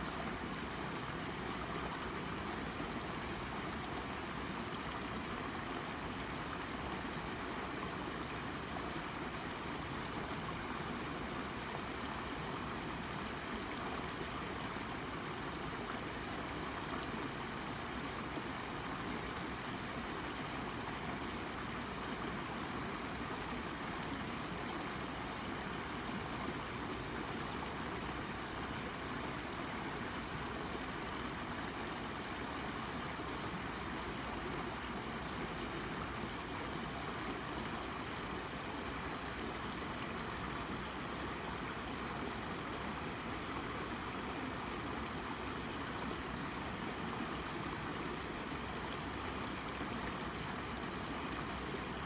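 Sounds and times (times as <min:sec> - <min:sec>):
brook babbling over rock: 0:00.0 - 0:52.0.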